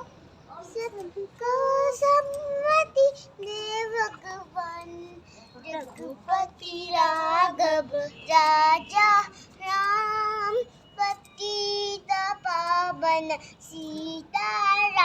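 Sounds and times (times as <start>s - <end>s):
child singing: 0.0s - 15.0s.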